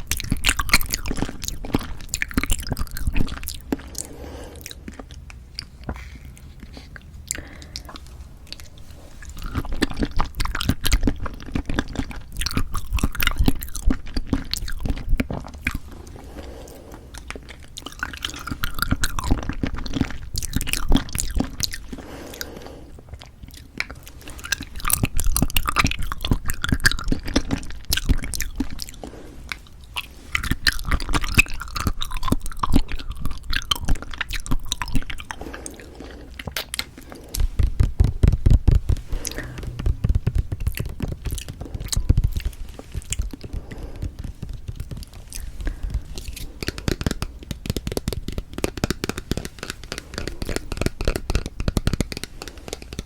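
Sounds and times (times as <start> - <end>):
close-miked chewing of jelly: 0.0 - 53.0.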